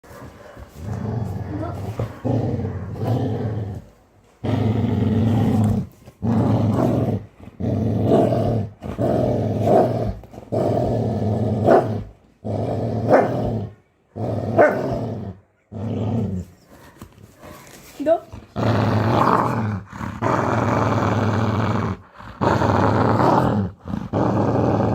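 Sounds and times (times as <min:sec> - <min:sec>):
dog growling: 0:00.1 - 0:24.9.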